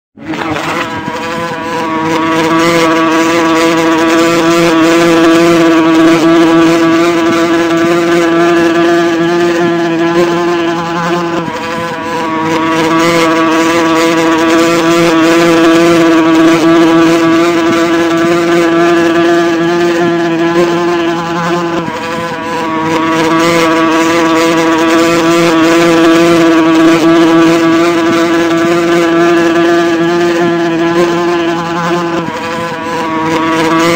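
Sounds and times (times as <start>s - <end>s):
wasp buzzing: 0.2s - 33.9s.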